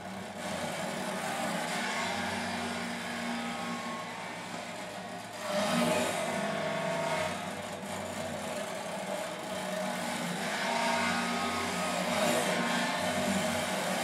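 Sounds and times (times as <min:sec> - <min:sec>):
amplified guitar noise drone: 0:00.0 - 0:14.0.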